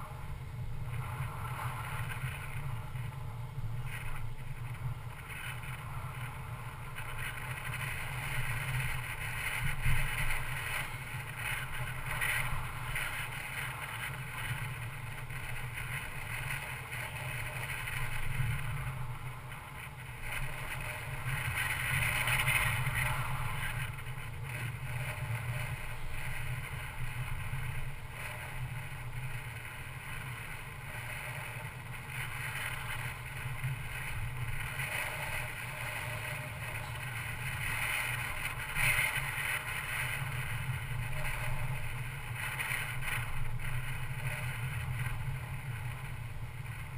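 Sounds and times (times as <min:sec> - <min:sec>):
car road rumble: 0:00.0 - 0:46.9
wind and tyre hiss: 0:00.0 - 0:46.9.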